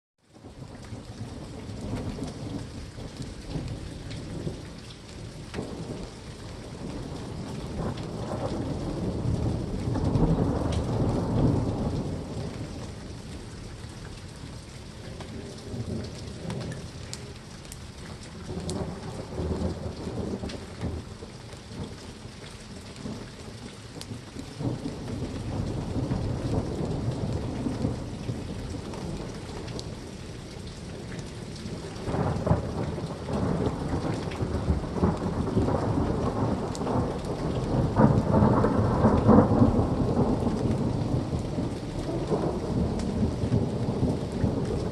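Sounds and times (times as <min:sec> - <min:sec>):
steady rain: 0:00.2 - 0:44.9
rolling thunder: 0:00.4 - 0:13.8, 0:18.0 - 0:22.0, 0:22.7 - 0:44.9.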